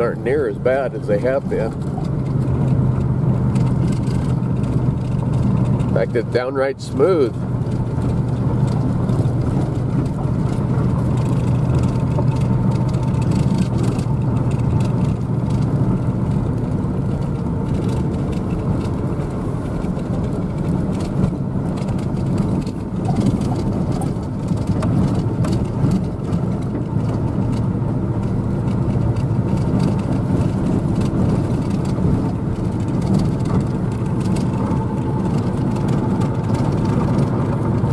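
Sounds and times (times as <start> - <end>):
road noise: 0.0 - 37.9
truck engine drone: 0.0 - 37.9.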